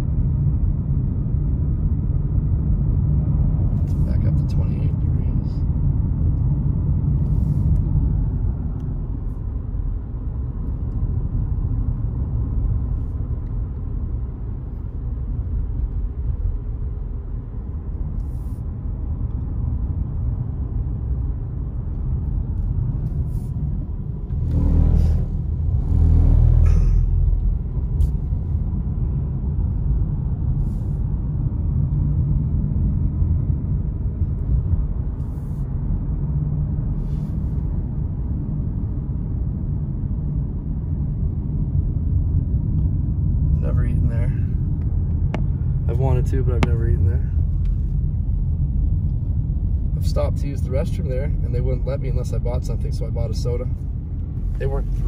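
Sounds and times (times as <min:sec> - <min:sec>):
road and tyre rumble in car: 0:00.0 - 0:55.0.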